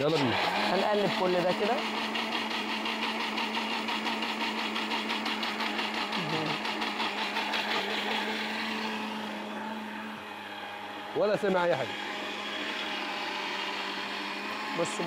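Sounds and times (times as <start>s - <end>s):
blender motor whirring: 0.0s - 15.0s.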